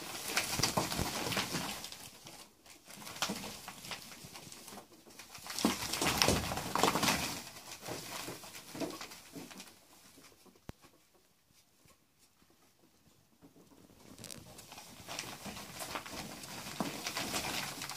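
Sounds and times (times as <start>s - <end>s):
ferrets scrabbling in plastic tunnel: 0.0s - 17.9s.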